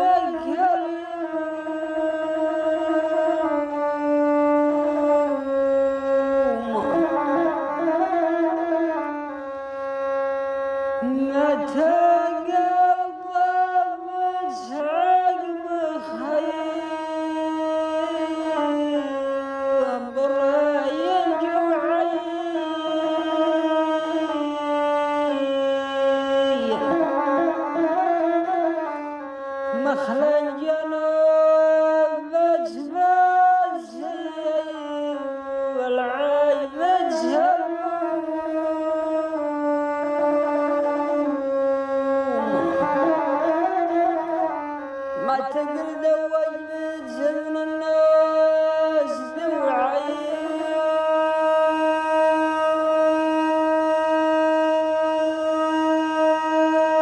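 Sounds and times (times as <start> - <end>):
bowed fiddle melody: 2.4 - 16.9, 17.5 - 52.0.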